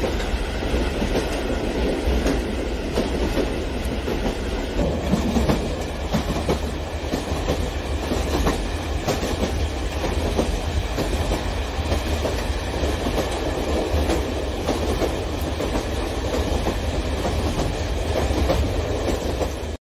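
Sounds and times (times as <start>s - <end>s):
low rumble of train: 0.0s - 19.8s.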